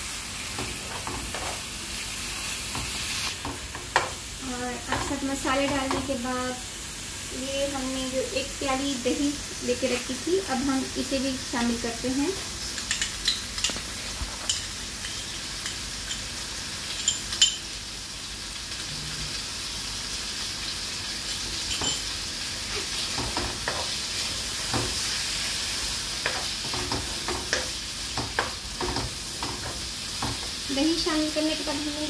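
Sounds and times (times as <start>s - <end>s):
curry sizzling in a pan: 0.0s - 32.0s.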